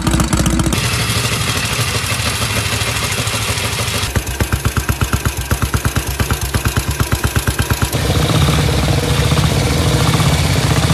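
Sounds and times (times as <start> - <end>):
motorcycle engine idling: 0.0 - 10.9
motorcycle engine running fast: 0.0 - 10.9.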